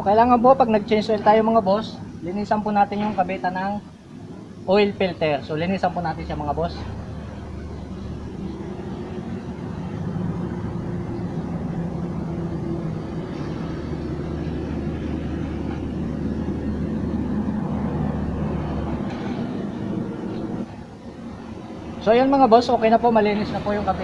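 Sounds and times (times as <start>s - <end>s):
low engine drone: 0.0s - 24.0s.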